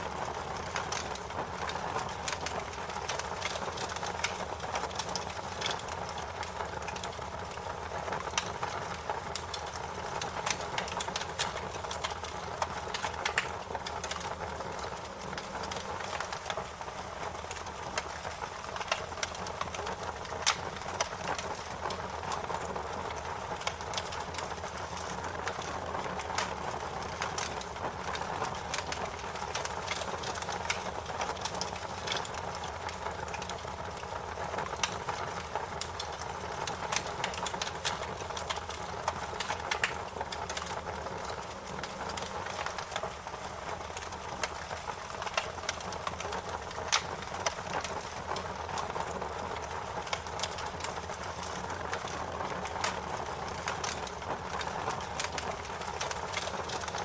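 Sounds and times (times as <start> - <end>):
wood fire crackling: 0.0 - 57.0
fire pops and snaps: 0.1 - 57.0.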